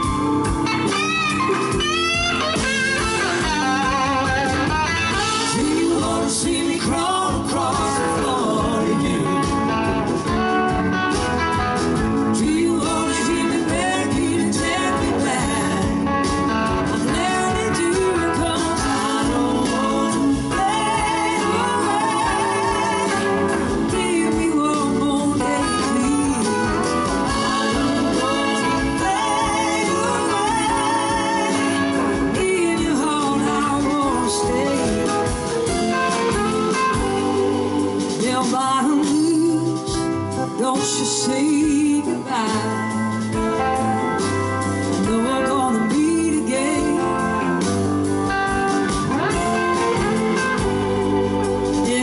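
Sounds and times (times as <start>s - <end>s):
woman singing: 0.0s - 10.0s, 12.2s - 43.3s, 44.9s - 47.7s, 49.2s - 52.0s
drums: 0.0s - 52.0s
electric guitars: 0.0s - 52.0s
keyboards: 0.0s - 52.0s
live blues-rock band playing: 0.0s - 52.0s.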